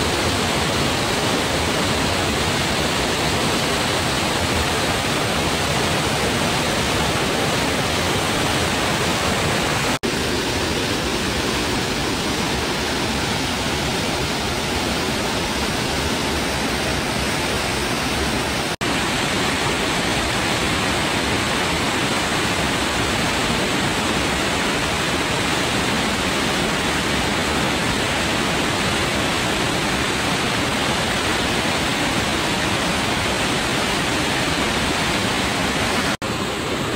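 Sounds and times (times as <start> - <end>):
stream water running over rocks: 0.0 - 36.9.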